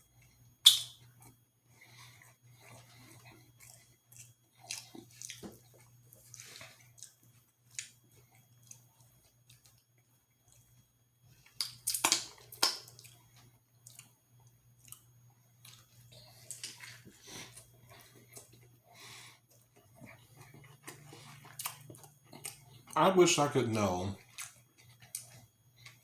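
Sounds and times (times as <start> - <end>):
chewing and mouth smacks: 0.2 - 23.0, 24.2 - 26.0.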